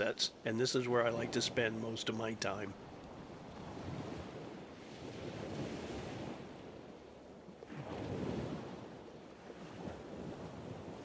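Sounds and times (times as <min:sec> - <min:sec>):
ocean surf breaking: 0:00.0 - 0:06.9, 0:07.6 - 0:11.0.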